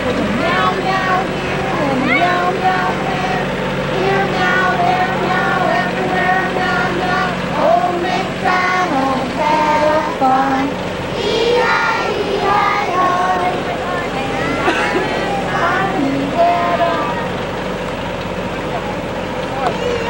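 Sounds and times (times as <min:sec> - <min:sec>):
children singing in unison: 0:00.0 - 0:17.7
steady low hum: 0:00.0 - 0:20.0.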